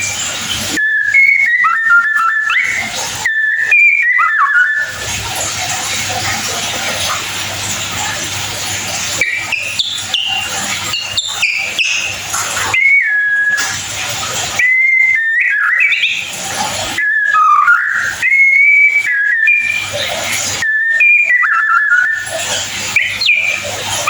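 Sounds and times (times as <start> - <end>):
bird chirping and whistling: 0.0 - 24.0.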